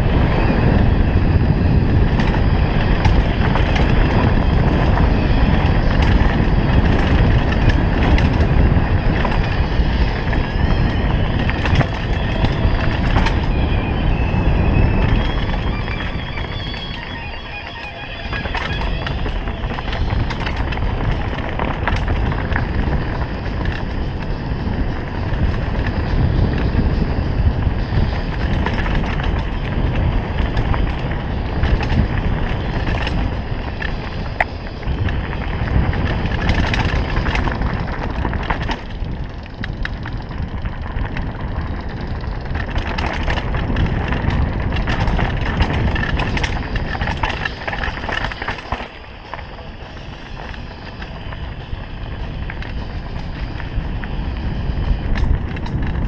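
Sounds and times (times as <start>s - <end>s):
bike clicks and rattles: 0.0s - 56.0s
tyre and ride noise: 0.0s - 56.0s.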